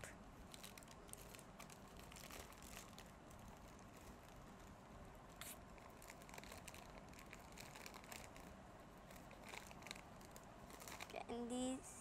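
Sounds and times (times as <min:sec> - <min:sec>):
soft crackle: 0:00.0 - 0:11.7
plastic bag crinkling: 0:00.4 - 0:04.8, 0:05.4 - 0:11.5.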